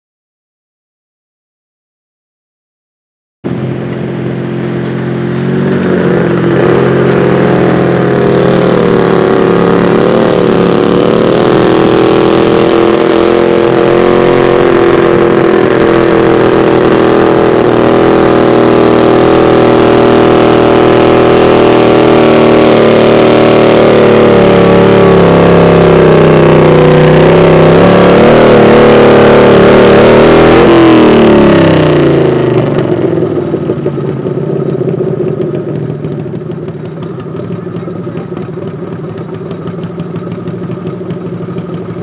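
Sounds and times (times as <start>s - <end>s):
tractor engine under load: 3.5s - 42.0s.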